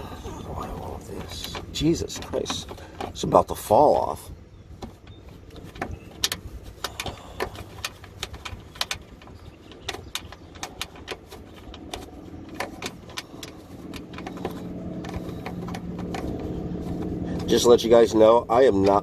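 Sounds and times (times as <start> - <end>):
hand tools clicking and knocking: 0.0 - 19.0
plastic panel being worked free: 0.0 - 19.0
steady low hum: 0.0 - 19.0.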